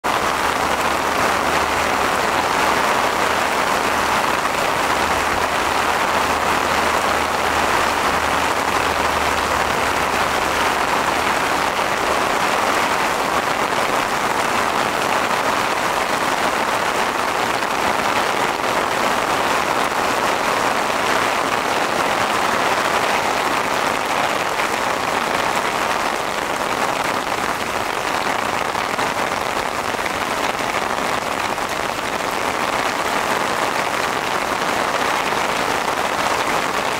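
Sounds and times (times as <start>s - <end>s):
torrential rain: 0.0s - 36.9s.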